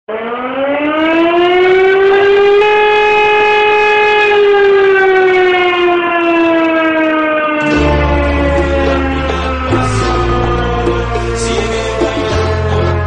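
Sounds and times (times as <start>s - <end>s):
fire siren wailing: 0.1s - 13.0s.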